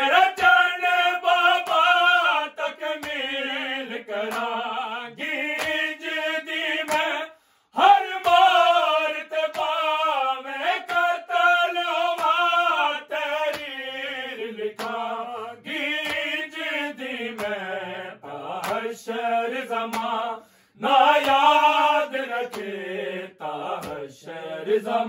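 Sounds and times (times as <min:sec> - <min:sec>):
men singing together: 0:00.0 - 0:25.0.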